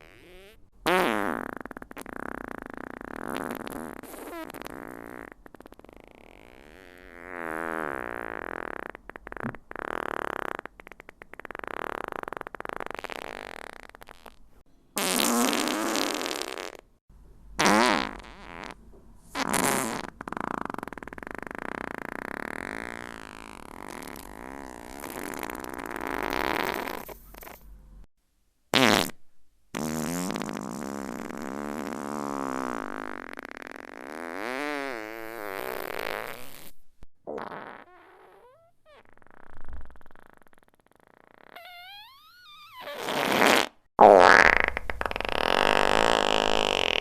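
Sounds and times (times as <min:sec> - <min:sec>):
fart sound effects: 0:00.0 - 0:14.4, 0:15.0 - 0:16.9, 0:17.6 - 0:27.7, 0:28.7 - 0:29.2, 0:29.8 - 0:47.0.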